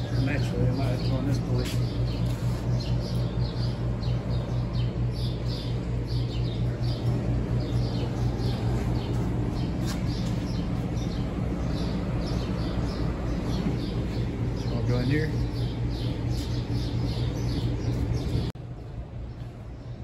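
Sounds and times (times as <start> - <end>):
bird chirping: 0.0 - 18.5
steady low hum: 0.0 - 20.0.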